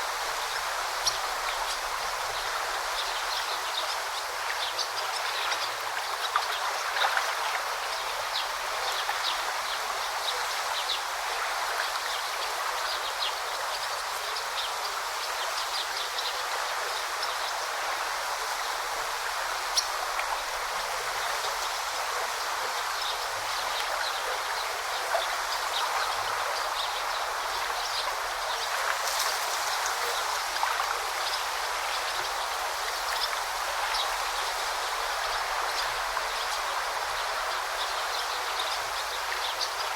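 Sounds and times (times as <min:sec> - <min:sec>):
forest stream babbling: 0:00.0 - 0:39.9.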